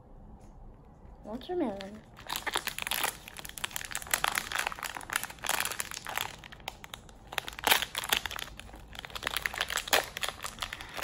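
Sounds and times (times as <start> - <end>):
foil wrapper crinkling: 1.7 - 11.0.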